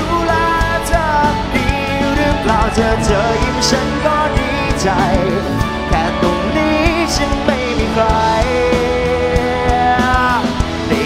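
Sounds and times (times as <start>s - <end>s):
live pop-rock band playing: 0.0s - 11.0s
man singing lead vocal: 0.0s - 11.0s.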